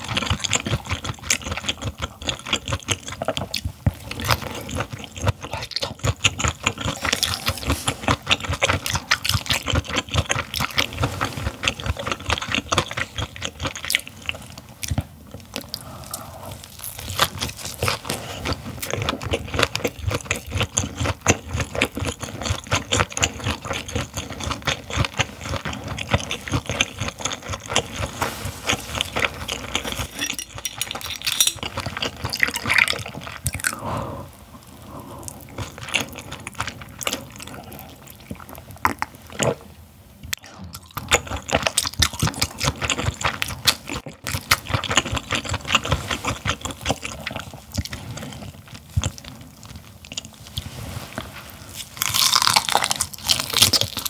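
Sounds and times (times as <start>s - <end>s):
wet crunchy chewing: 0.0s - 33.8s, 40.4s - 54.0s.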